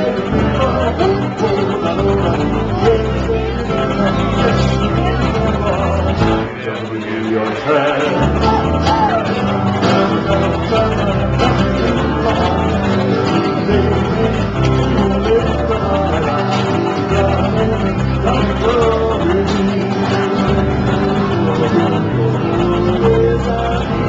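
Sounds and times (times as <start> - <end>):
bass line: 0.0 - 24.0
men singing into microphones: 0.0 - 24.0
strummed acoustic guitars: 0.0 - 24.0.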